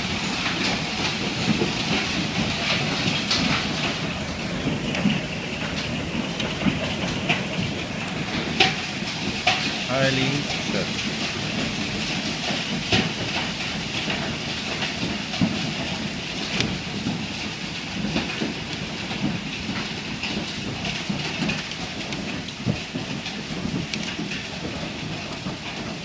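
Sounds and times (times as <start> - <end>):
hail clattering: 0.0 - 26.0.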